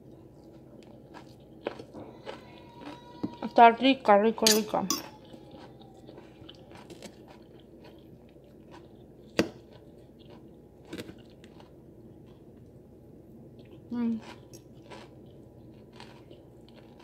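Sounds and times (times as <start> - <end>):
crunchy chewing of salad: 0.0 - 3.6, 5.1 - 12.8, 13.4 - 17.0.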